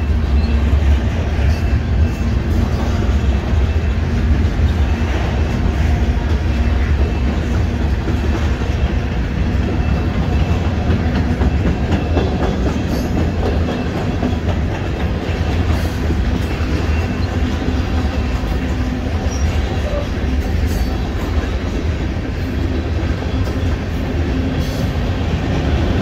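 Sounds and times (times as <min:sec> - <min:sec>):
steel train wheels on rails: 0:00.0 - 0:26.0.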